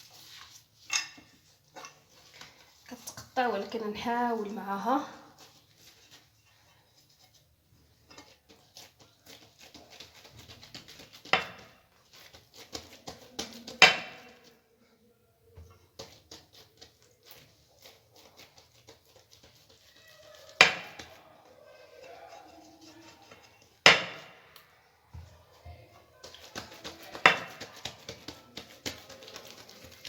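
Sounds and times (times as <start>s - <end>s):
pastry sheets rustling: 0.0s - 14.8s, 15.5s - 30.0s.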